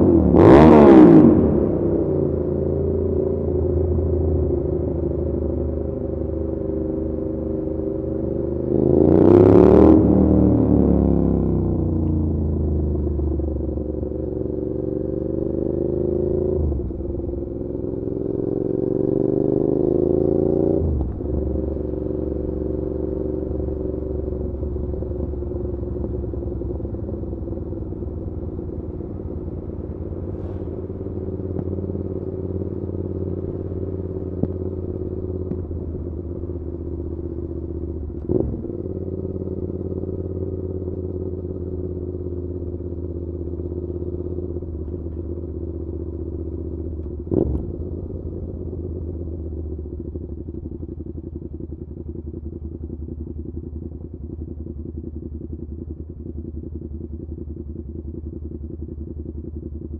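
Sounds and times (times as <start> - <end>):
motorcycle engine revving: 0.0 - 51.5.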